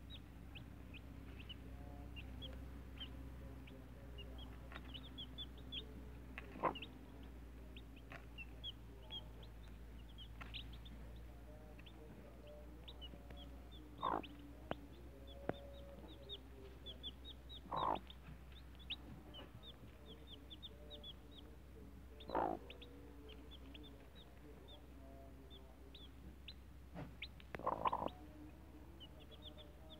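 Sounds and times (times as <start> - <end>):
chicks peeping: 0.0 - 29.9
hen clucking: 0.0 - 29.9.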